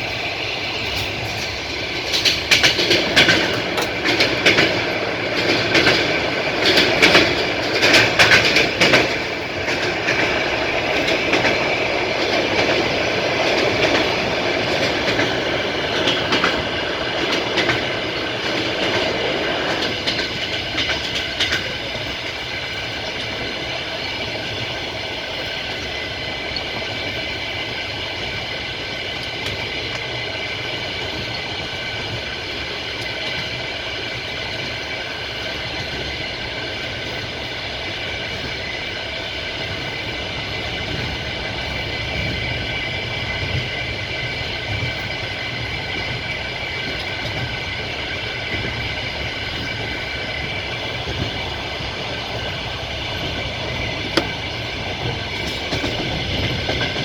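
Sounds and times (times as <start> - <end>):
train wheels rolling on rails: 0.0 - 57.0
wheel clicks over rail joints: 0.8 - 27.2, 27.9 - 57.0.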